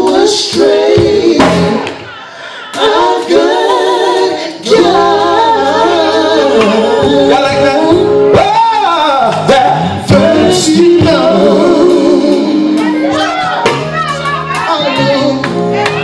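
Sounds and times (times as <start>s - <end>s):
male vocal group singing in harmony: 0.0s - 13.4s.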